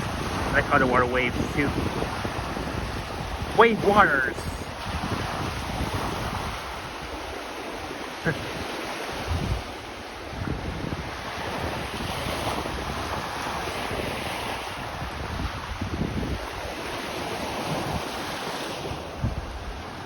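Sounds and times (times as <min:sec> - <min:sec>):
lake waves washing onto shore: 0:00.0 - 0:20.0
wind buffeting microphone: 0:00.0 - 0:20.0.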